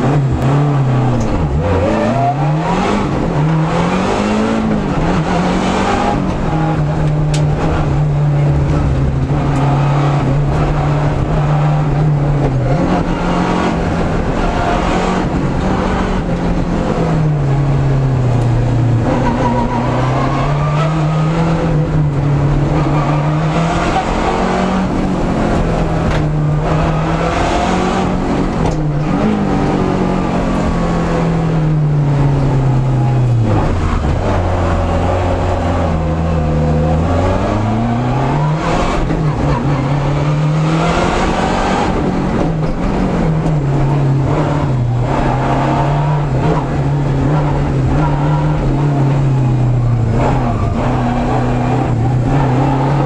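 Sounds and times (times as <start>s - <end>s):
rally car engine revving: 0.0s - 53.0s
road noise: 0.0s - 53.0s.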